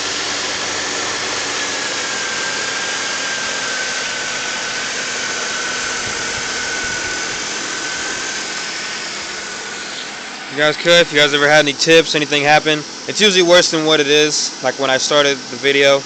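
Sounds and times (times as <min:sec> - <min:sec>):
car engine idling roughly: 0:00.0 - 0:16.0
thin steady whine: 0:00.0 - 0:16.0.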